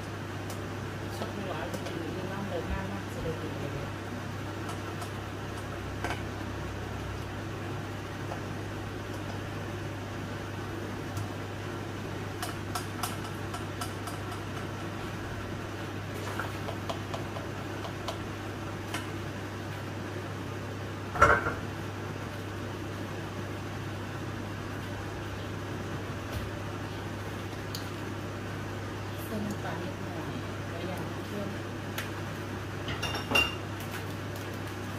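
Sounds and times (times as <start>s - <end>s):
kitchen appliance humming: 0.0s - 34.9s.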